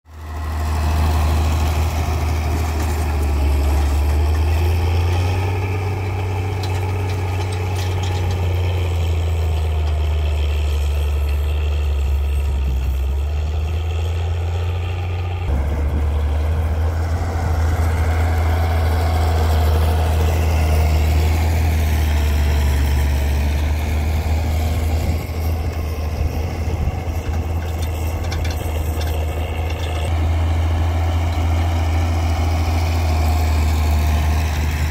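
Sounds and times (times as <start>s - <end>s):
tractor diesel engines running: 0.1s - 34.9s.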